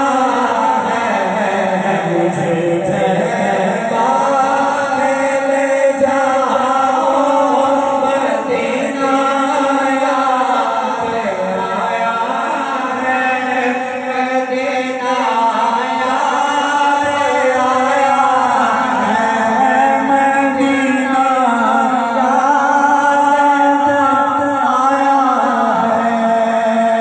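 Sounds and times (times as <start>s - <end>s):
men chanting in unison: 0.0s - 27.0s.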